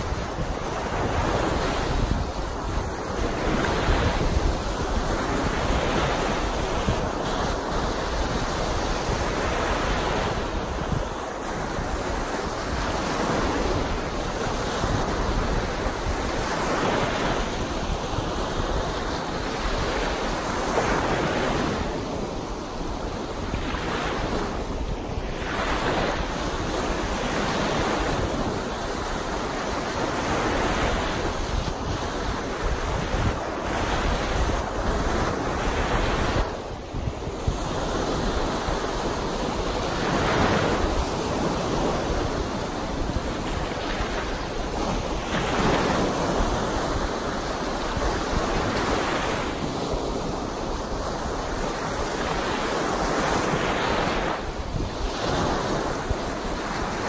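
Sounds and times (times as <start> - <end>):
small waves breaking on sand: 0.0 - 57.0
wind buffeting microphone: 0.0 - 57.0.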